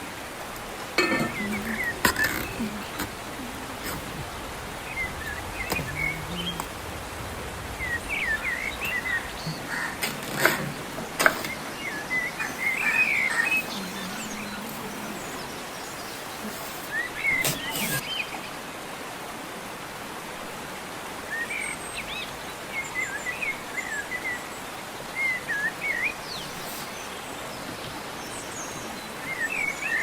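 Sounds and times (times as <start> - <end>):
background hiss: 0.0 - 30.0
small birds chirping: 0.6 - 18.5, 21.4 - 30.0.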